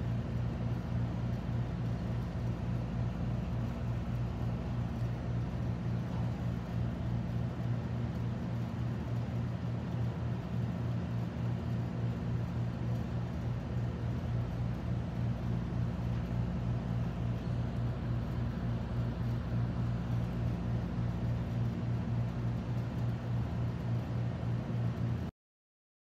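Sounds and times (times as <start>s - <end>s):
low machine hum over hiss: 0.0s - 25.3s.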